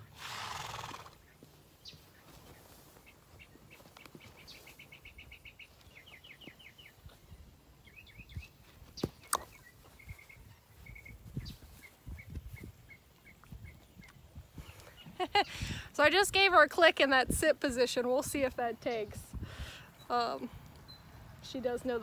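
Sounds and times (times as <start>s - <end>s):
small birds chirping: 0.0s - 16.0s, 18.4s - 22.0s.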